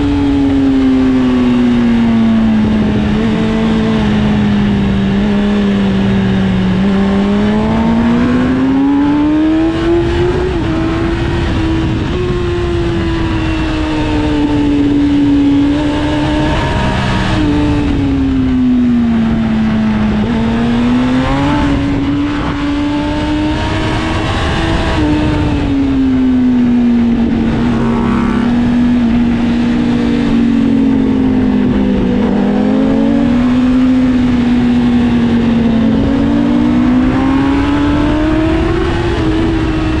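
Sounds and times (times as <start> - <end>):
motorcycle engine revving: 0.0 - 40.0
rushing wind noise: 0.0 - 40.0.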